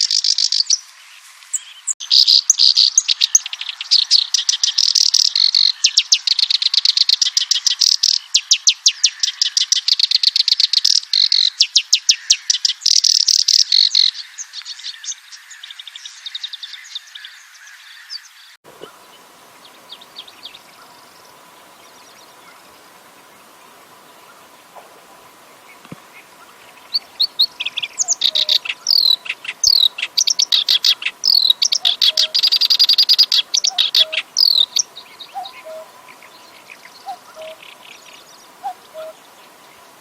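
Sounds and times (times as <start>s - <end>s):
warbler singing chattering song: 0.0s - 0.9s, 1.5s - 40.0s
background hiss: 0.0s - 16.1s, 18.3s - 40.0s.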